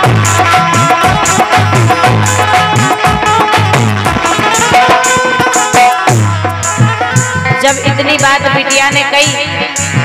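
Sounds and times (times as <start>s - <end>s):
hand drum rhythm: 0.0s - 10.0s
harmonium held notes: 0.0s - 10.0s.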